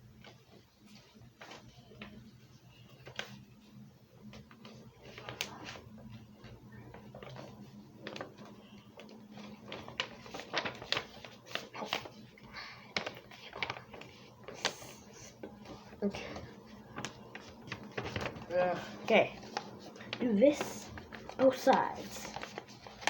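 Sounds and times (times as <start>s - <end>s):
paper crinkling and folding: 0.0s - 23.0s.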